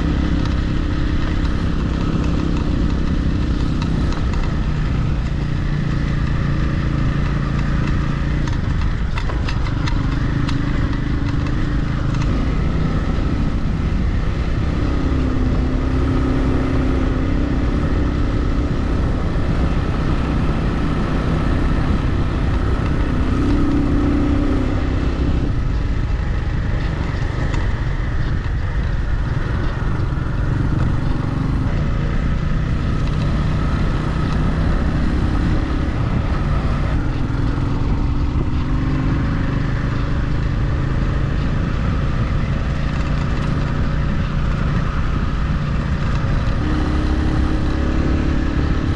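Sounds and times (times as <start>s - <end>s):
low rumble: 0.0s - 48.9s
motorcycle engine running: 0.0s - 48.9s.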